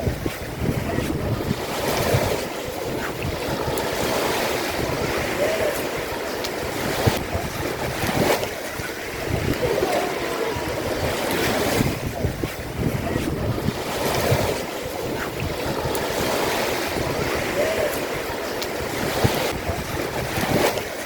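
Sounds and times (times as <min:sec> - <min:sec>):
sea waves washing ashore: 0:00.0 - 0:21.0
wind buffeting microphone: 0:00.0 - 0:21.0.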